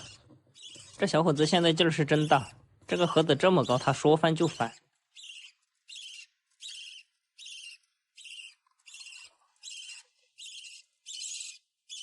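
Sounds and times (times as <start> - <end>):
parrot chick rasping begging calls: 0.0 - 2.8, 3.6 - 12.0.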